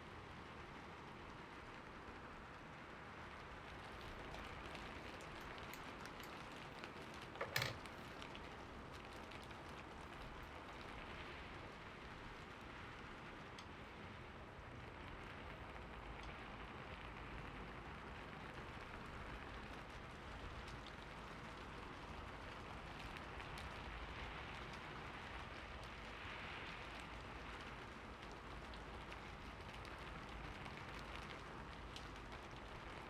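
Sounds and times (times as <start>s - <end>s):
steady rain patter: 0.0s - 33.0s.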